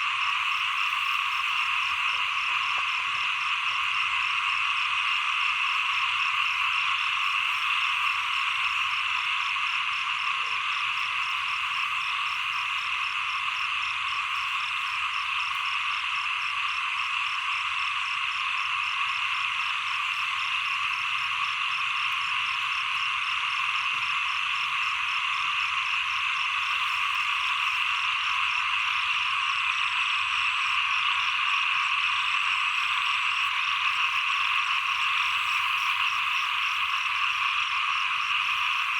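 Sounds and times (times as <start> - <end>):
chorus of small frogs calling: 0.0 - 38.9.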